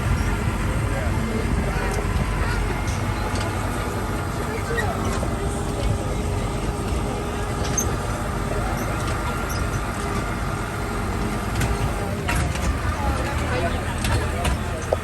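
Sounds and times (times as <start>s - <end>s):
road noise: 0.0s - 15.0s
vehicle engine rumble: 0.0s - 15.0s.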